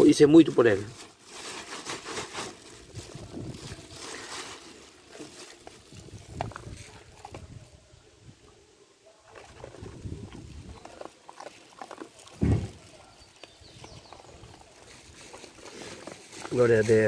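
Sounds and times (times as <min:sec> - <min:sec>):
plastic bag rustling: 0:00.0 - 0:07.6, 0:09.3 - 0:17.0
dog crunching dry kibble: 0:00.3 - 0:07.5, 0:09.3 - 0:17.0.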